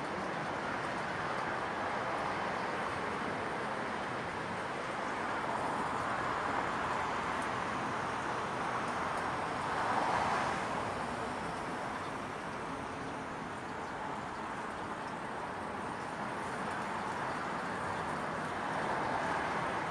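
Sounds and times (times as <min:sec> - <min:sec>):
distant road traffic: 0:00.0 - 0:19.9.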